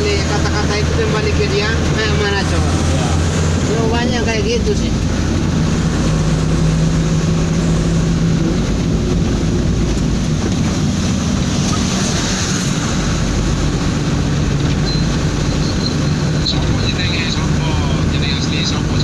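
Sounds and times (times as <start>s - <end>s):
truck engine drone: 0.0s - 19.0s
tyre and road noise: 0.0s - 19.0s.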